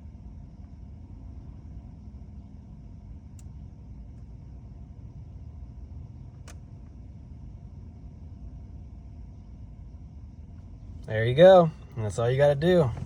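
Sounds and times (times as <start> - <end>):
low rumble with faint hum: 0.0 - 13.0.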